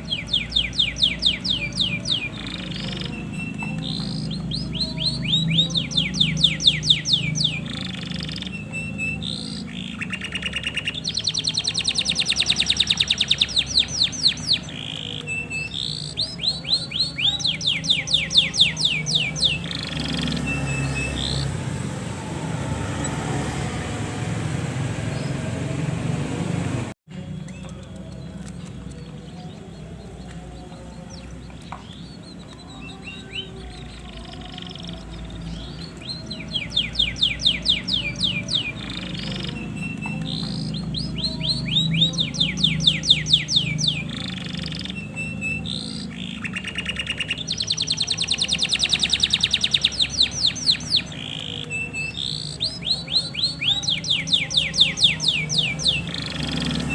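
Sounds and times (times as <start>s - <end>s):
canary singing: 0.0s - 56.9s.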